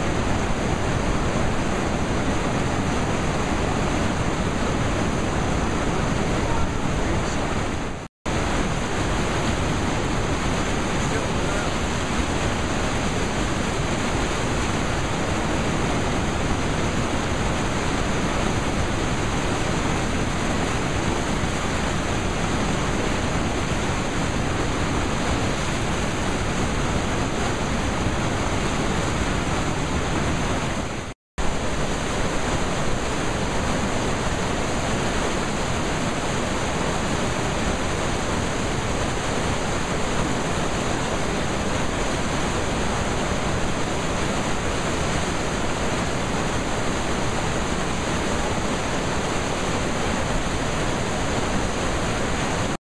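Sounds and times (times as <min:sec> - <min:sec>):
whitewater rapids rushing: 0:00.0 - 0:52.8.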